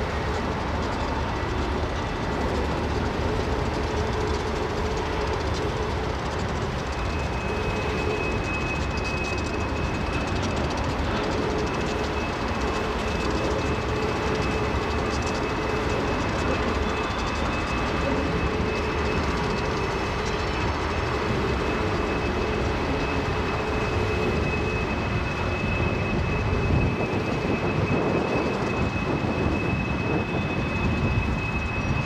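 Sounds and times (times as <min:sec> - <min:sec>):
thin high whine: 0:00.0 - 0:32.0
train wheels rumbling on rails: 0:00.0 - 0:32.0.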